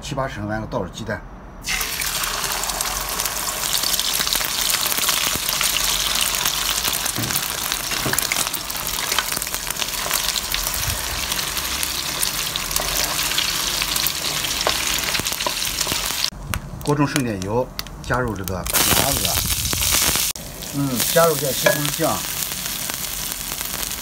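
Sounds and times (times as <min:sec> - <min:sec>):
eggs sizzling in hot oil: 0:01.6 - 0:16.4, 0:18.6 - 0:24.0.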